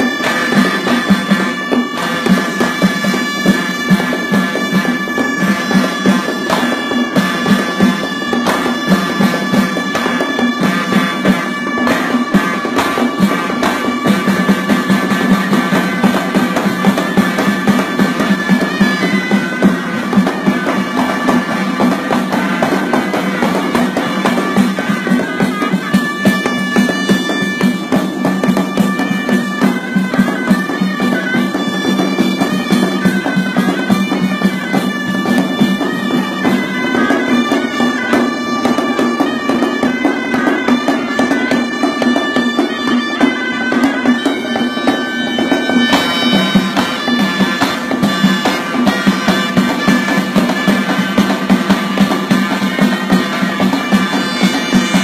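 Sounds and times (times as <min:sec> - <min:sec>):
fast hand drum beats: 0:00.0 - 0:55.0
reedy shawm melody: 0:00.0 - 0:55.0.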